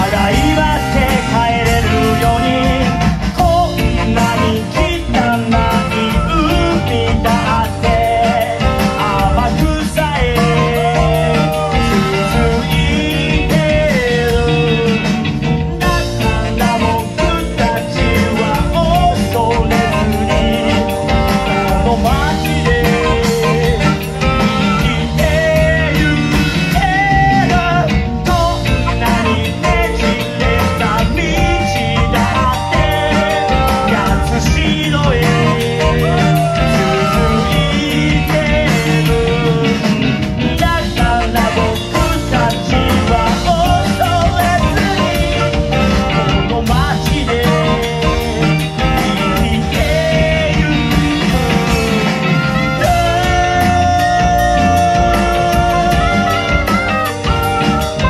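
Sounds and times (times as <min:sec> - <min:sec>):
drums: 0:00.0 - 0:58.0
electric bass: 0:00.0 - 0:58.0
electric guitar: 0:00.0 - 0:58.0
live rock band: 0:00.0 - 0:58.0
wind instruments: 0:00.0 - 0:58.0.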